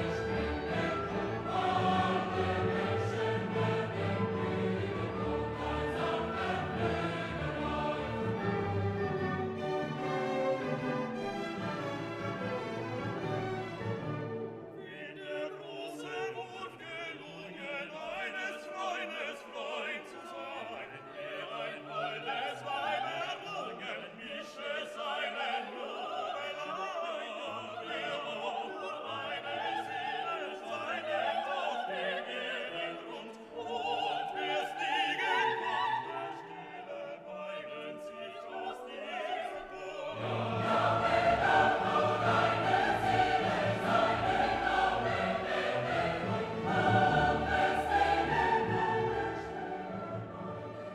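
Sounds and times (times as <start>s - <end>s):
operatic singing with orchestra: 0.0s - 50.9s.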